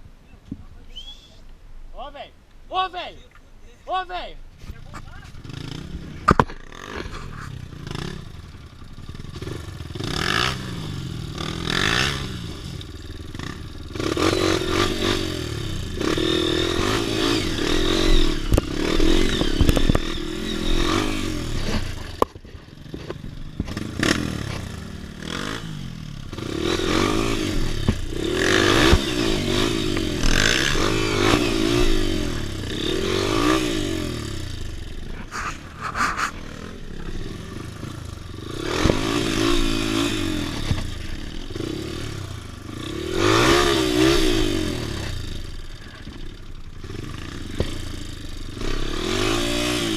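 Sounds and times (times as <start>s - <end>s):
motorcycle engine revving: 4.9s - 49.9s.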